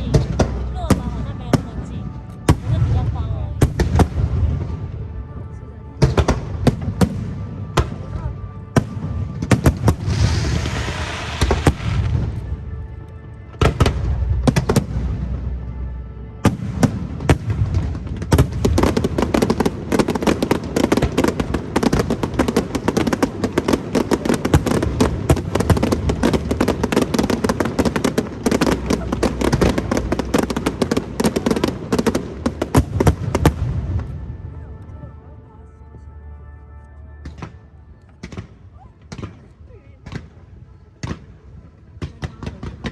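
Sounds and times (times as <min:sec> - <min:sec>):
fireworks bangs and crackle: 0:00.0 - 0:05.0, 0:05.9 - 0:12.8, 0:13.5 - 0:15.8, 0:16.4 - 0:35.1, 0:37.2 - 0:42.9.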